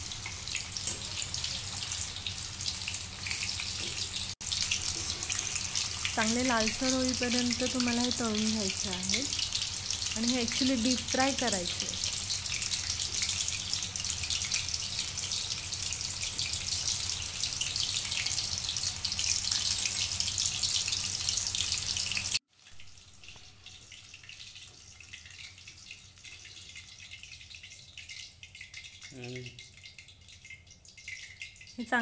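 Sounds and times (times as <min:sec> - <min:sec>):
food deep-frying in oil: 0:00.0 - 0:32.0.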